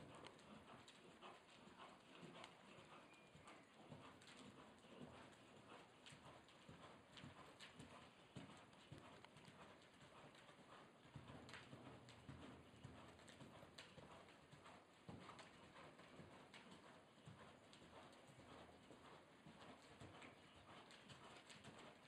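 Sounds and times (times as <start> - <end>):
horse hoofbeats on soft dirt: 0.0 - 22.0.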